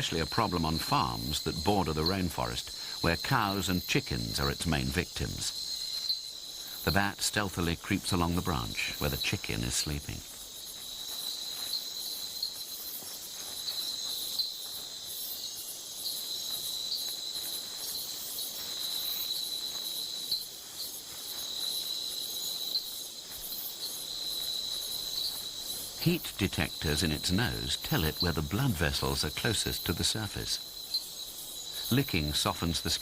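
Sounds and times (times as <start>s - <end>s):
insects trilling: 0.0s - 33.0s
shrill pulsing insect calls: 0.0s - 33.0s.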